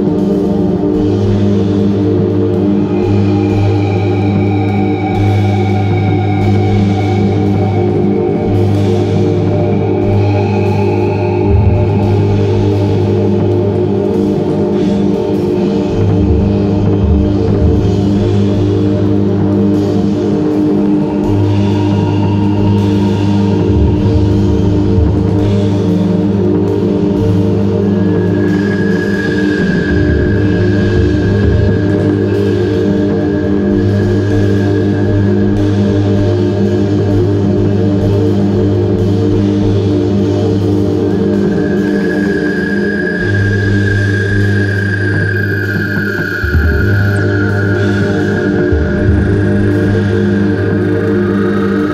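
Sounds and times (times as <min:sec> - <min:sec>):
sustained low synth tones: 0:00.0 - 0:42.3, 0:46.3 - 0:51.9.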